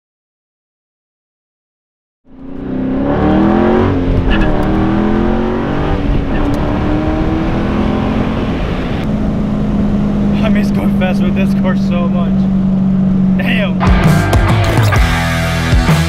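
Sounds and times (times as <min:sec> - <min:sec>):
car engine accelerating: 0:02.3 - 0:16.0.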